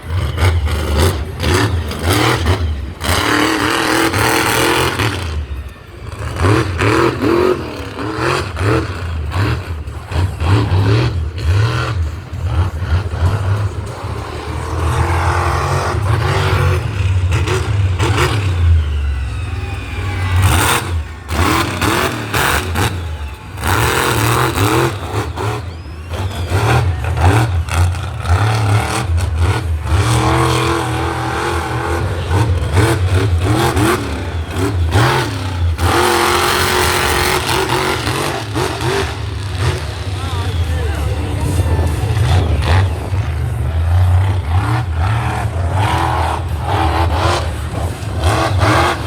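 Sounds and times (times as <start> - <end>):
engines revving: 0.0 - 49.0.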